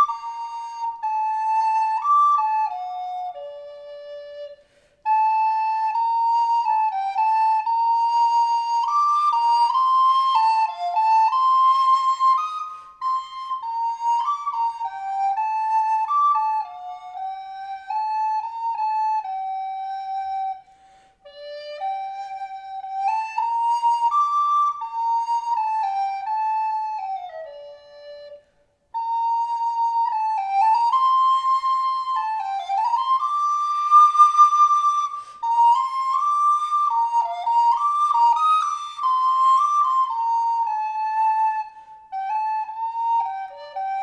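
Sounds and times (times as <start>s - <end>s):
recorder playing slow melody: 0.0s - 44.0s.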